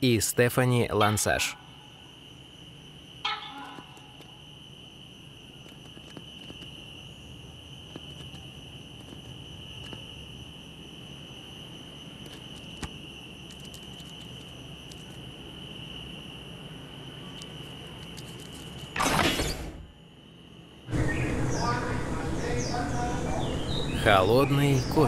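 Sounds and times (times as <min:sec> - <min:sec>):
high-pitched insect trill: 0:00.1 - 0:20.9.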